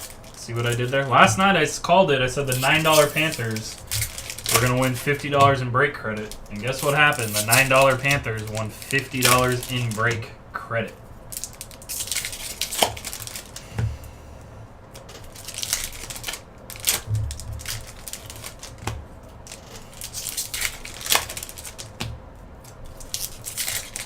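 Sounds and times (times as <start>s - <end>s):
wrappers crinkling and tearing: 0.0s - 10.3s, 11.3s - 13.7s, 15.0s - 24.0s.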